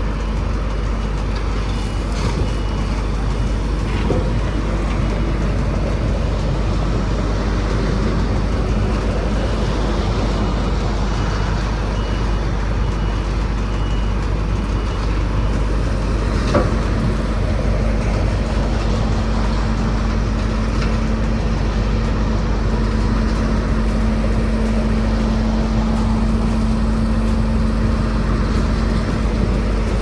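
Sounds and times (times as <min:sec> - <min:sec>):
backup alarm beeping: 0:00.0 - 0:22.2, 0:22.8 - 0:30.0
heavy truck engine running: 0:00.0 - 0:30.0
steady hum: 0:00.0 - 0:30.0.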